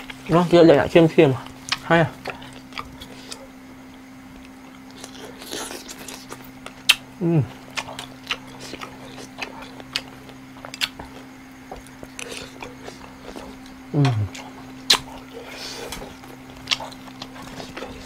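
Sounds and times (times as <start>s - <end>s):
steady low hum: 0.0s - 18.0s
person chewing crunchy food: 1.4s - 18.0s.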